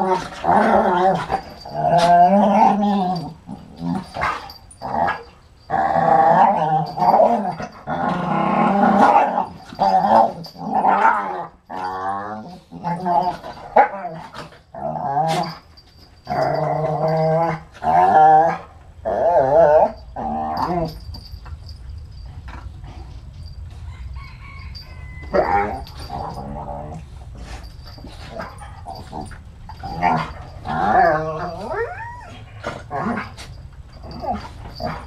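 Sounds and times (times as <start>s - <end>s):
dogs growl-howling: 0.0s - 15.6s, 16.2s - 21.0s, 25.2s - 27.1s, 27.9s - 35.0s.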